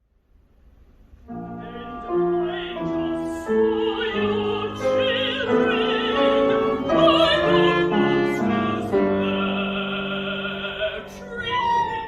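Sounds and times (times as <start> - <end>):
contralto singing: 1.3 - 12.0
instrumental accompaniment: 1.3 - 12.0.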